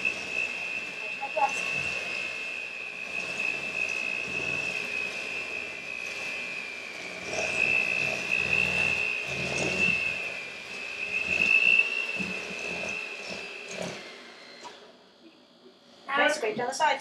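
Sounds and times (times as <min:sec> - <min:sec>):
electric hand mixer whining: 0:00.0 - 0:15.1.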